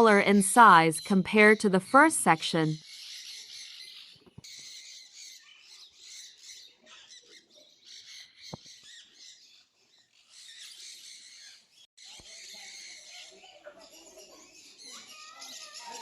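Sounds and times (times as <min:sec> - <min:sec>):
small birds chirping and squawking: 0:02.7 - 0:16.0.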